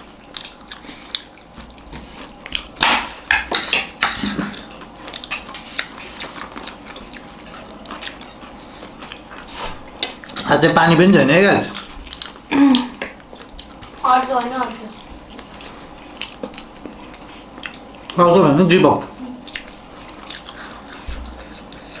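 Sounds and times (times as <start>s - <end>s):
chewing: 0.0s - 22.0s.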